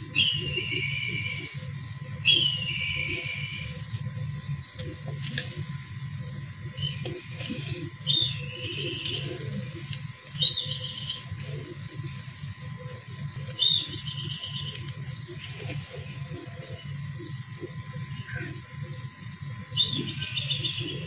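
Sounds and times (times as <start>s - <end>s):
bird chirping: 0.0s - 21.0s
steady low hum: 0.0s - 21.0s.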